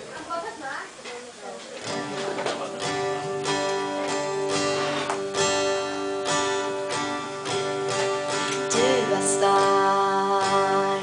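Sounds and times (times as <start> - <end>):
acoustic guitar strumming chords: 1.8 - 11.0.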